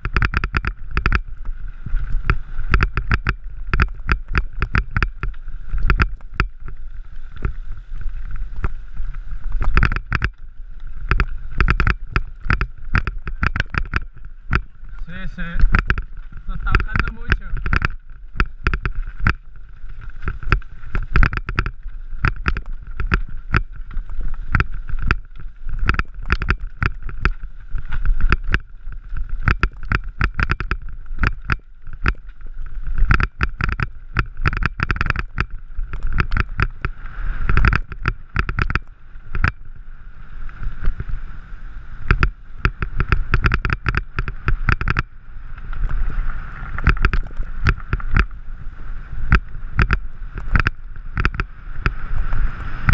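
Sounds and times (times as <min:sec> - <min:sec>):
bike rattling over gravel: 0:00.0 - 0:52.9.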